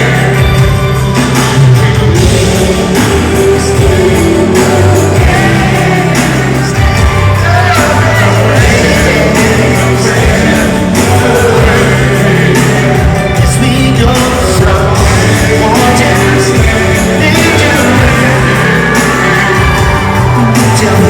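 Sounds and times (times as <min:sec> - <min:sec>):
crowd shouting and singing along: 0:00.0 - 0:21.0
man singing with band: 0:00.0 - 0:21.0.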